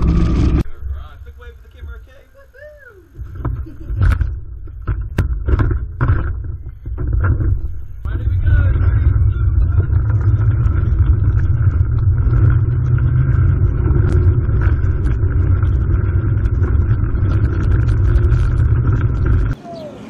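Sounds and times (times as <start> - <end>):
faint steady whine: 0.0 - 19.6
pod rolling on rail rumble: 0.0 - 20.0.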